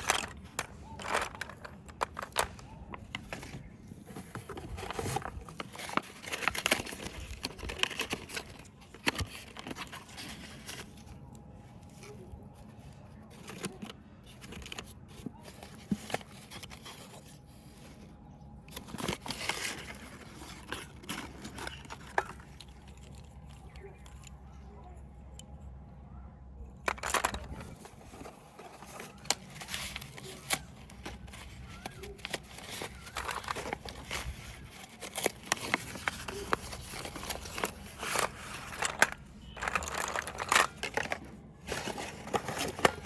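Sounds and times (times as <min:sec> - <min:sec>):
packaging crinkling and tearing: 0:00.0 - 0:18.1, 0:18.7 - 0:24.4, 0:26.8 - 0:43.0.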